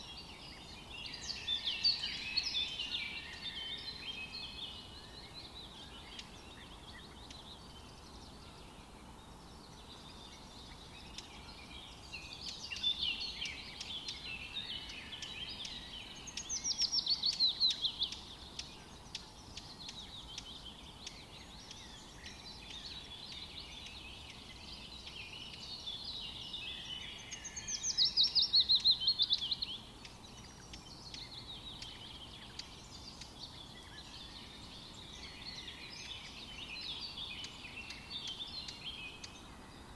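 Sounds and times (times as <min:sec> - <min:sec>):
faint background hiss: 0:00.0 - 0:39.9
wild birds singing: 0:00.0 - 0:39.9.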